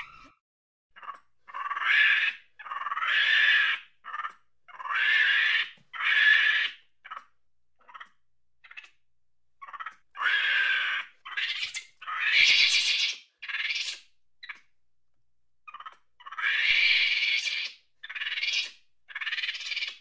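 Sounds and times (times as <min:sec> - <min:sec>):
monkey chirps: 0:01.0 - 0:09.0, 0:09.6 - 0:14.7, 0:15.7 - 0:20.0.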